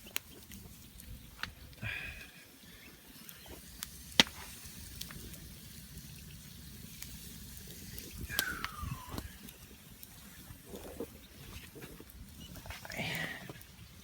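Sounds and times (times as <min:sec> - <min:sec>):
faint outdoor background: 0:00.0 - 0:14.0
wood fire crackling and popping: 0:00.0 - 0:14.0.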